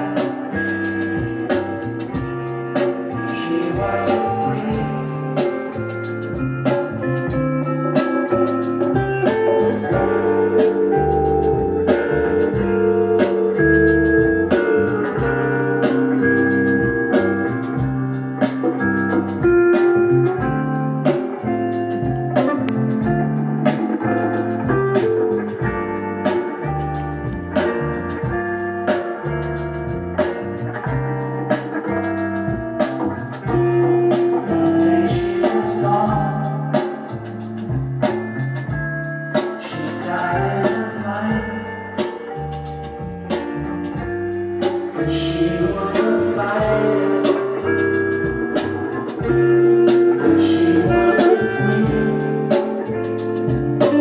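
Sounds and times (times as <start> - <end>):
blues music with guitar and drums: 0.0 - 54.0.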